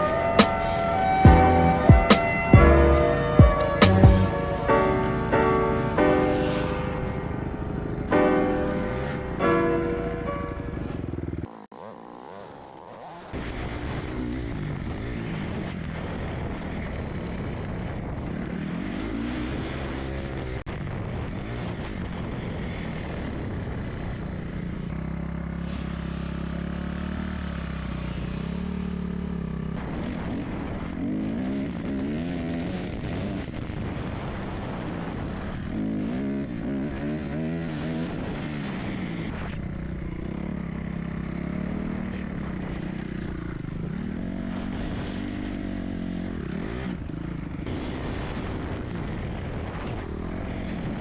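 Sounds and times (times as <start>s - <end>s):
dirt bike engine revving: 0.0s - 9.6s, 10.4s - 51.0s.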